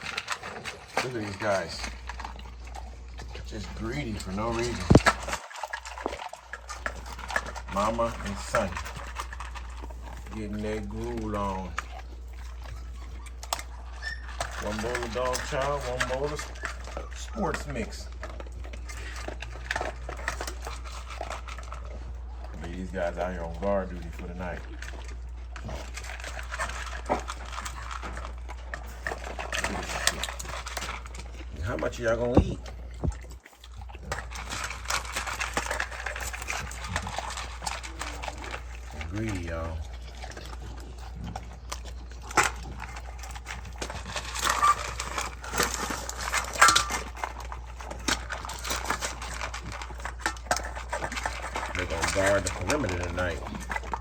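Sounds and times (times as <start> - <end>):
dogs crunching dry kibble: 0.0 - 54.0.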